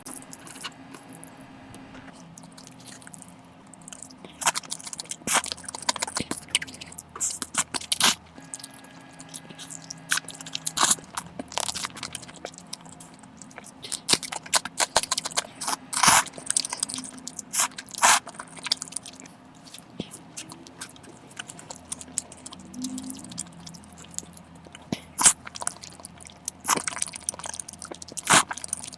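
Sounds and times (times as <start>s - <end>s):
mouth chewing noodles: 2.0s - 28.9s.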